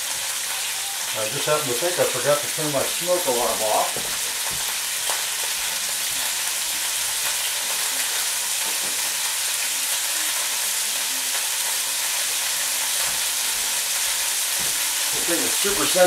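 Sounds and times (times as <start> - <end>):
steak sizzling in a frying pan: 0.0 - 16.0.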